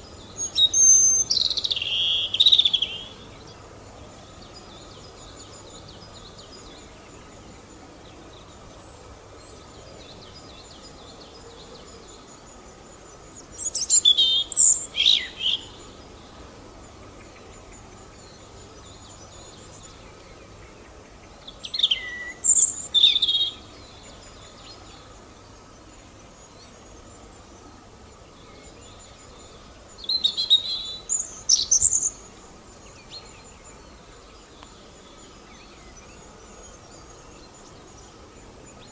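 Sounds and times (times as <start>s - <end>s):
high chirping of birds: 0.0s - 38.9s
low background hiss: 0.0s - 38.9s.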